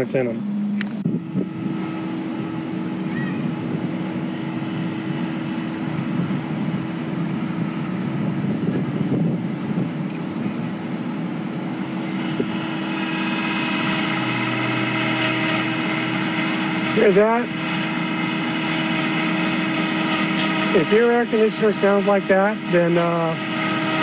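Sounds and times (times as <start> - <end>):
fan motor humming and whining: 0.0 - 24.0.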